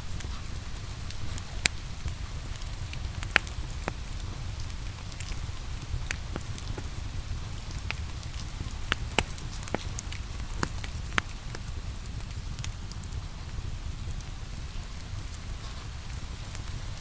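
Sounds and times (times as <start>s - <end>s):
log fire crackling: 0.0s - 17.0s
steady rain: 0.0s - 17.0s.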